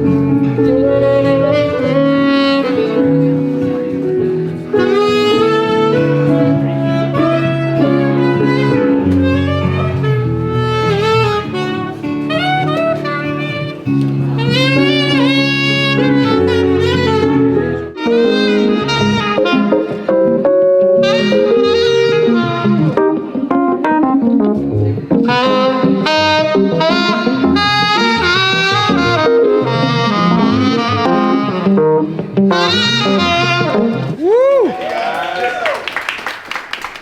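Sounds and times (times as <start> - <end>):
saxophone melody: 0.0 - 34.2.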